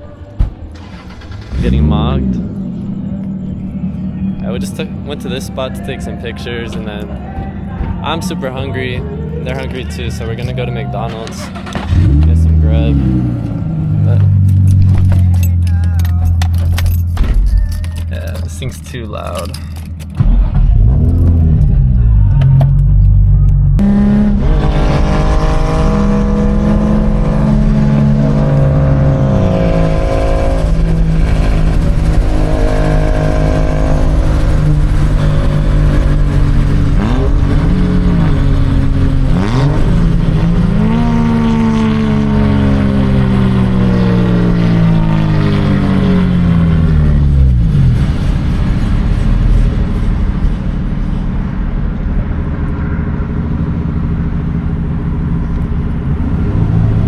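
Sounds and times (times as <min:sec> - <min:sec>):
loud car exhaust: 0:00.0 - 0:15.7, 0:20.1 - 0:57.0.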